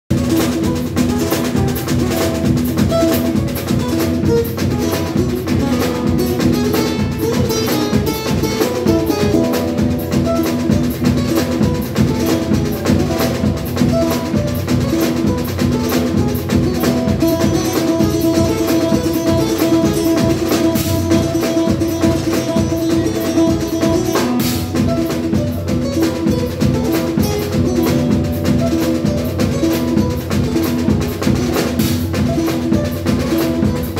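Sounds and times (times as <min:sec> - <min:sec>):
drum kit playing a busy beat: 0:00.0 - 0:33.9.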